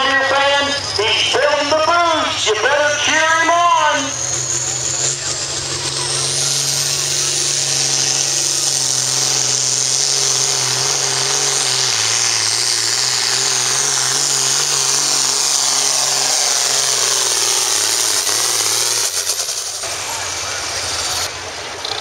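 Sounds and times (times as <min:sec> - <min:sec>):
high turbo whine: 0:00.0 - 0:22.0
tractor engine at full throttle: 0:00.0 - 0:22.0.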